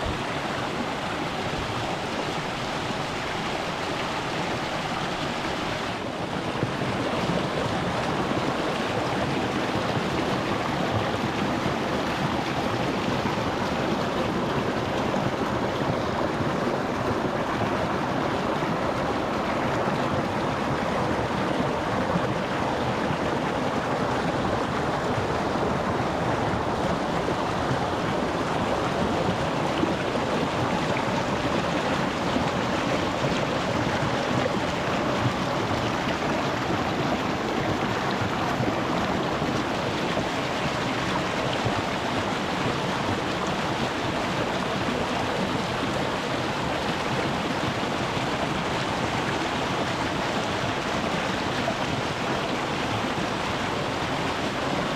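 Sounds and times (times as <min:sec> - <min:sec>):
stream flowing over stones: 0:00.0 - 0:54.9.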